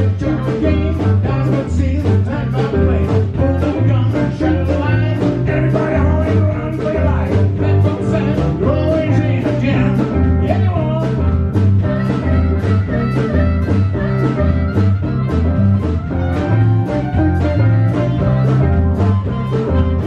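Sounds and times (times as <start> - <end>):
blues guitar: 0.0 - 20.0
steady drum beat: 0.0 - 20.0
stepping bass line: 0.0 - 20.0.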